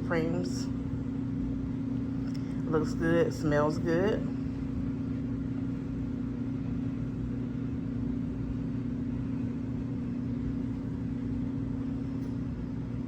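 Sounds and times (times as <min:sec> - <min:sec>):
motor humming and rumbling: 0:00.0 - 0:13.0.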